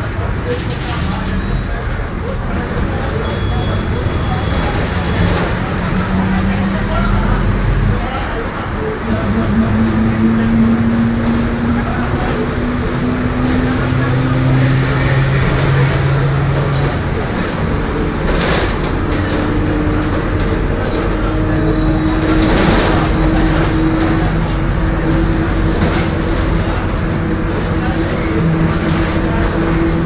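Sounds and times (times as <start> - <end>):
bus engine at low revs: 0.0 - 30.0.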